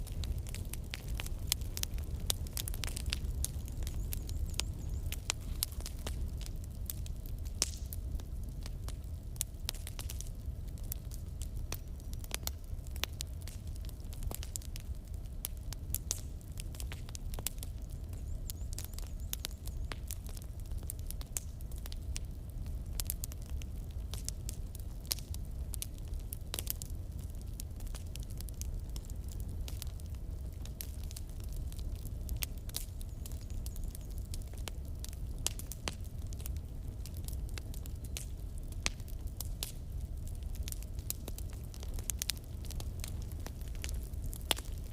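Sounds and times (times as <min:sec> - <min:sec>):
logs crackling and popping: 0:00.0 - 0:44.9
low rumble of flames: 0:00.0 - 0:44.9
wood fire burning: 0:00.0 - 0:44.9.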